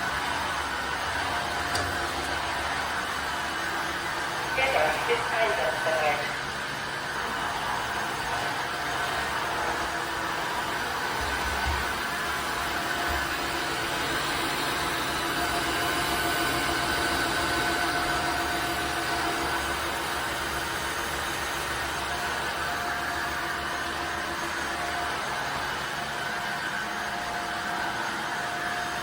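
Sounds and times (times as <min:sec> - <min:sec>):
floor washer motor whine: 0:00.0 - 0:29.0.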